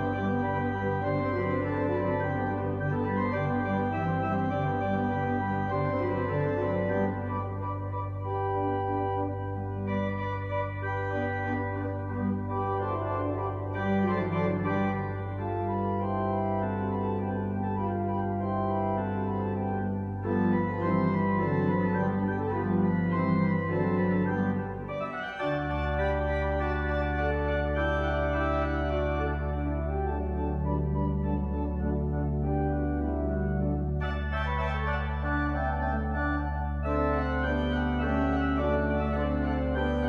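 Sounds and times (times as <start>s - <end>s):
pipe organ melody: 0.0s - 40.0s.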